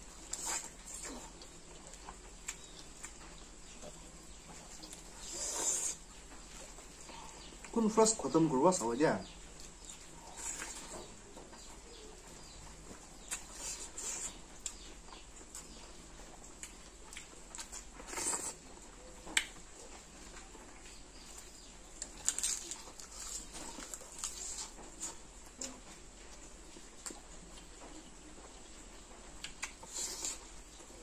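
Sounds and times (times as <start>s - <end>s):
wet chewing and lip smacks: 0.1s - 7.8s, 9.5s - 28.0s, 28.9s - 31.0s.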